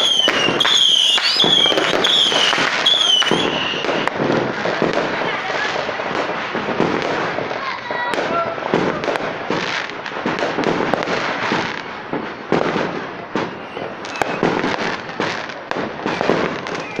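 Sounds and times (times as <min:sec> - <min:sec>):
fireworks bangs and crackling: 0:00.0 - 0:17.0
sharp crack: 0:00.0 - 0:17.0.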